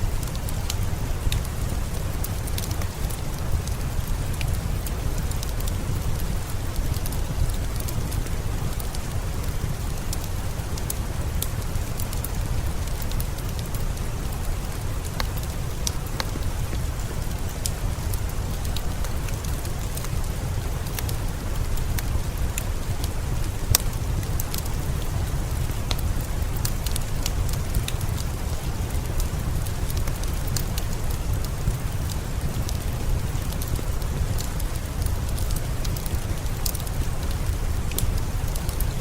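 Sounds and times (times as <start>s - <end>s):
fireplace crackling: 0.0s - 39.0s
steady rain: 0.0s - 39.0s.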